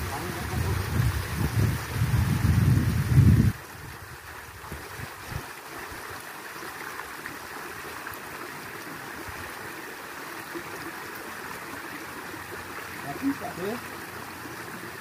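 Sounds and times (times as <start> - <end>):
creek flowing: 0.0 - 15.0.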